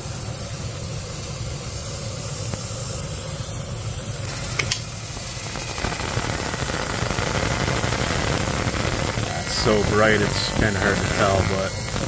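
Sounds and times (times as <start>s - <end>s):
fume extractor rushing air: 0.0s - 12.0s
laser engraving hiss: 0.0s - 12.0s.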